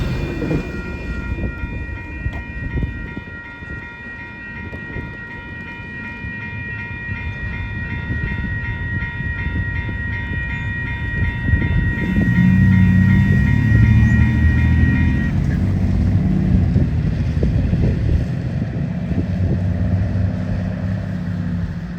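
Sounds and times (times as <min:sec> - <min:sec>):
freight train wheel clatter: 0:00.0 - 0:21.9
railroad crossing bell ringing: 0:00.0 - 0:21.9.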